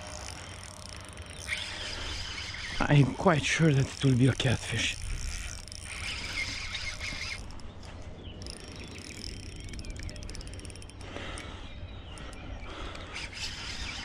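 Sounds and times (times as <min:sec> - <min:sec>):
fishing reel ticking: 0:00.0 - 0:14.0.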